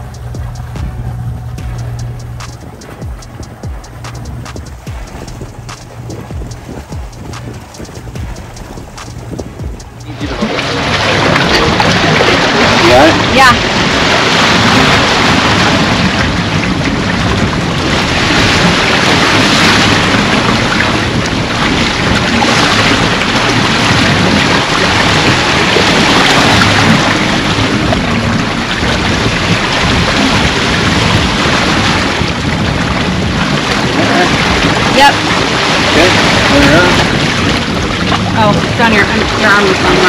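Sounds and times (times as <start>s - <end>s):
water washing along hull: 0.0s - 40.0s
wind on microphone: 0.0s - 40.0s.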